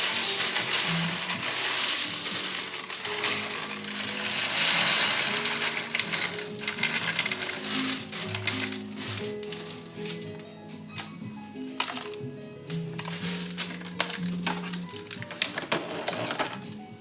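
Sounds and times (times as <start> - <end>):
coffee beans pouring into hopper: 0.0 - 10.5, 12.8 - 16.8
background music: 0.0 - 17.0.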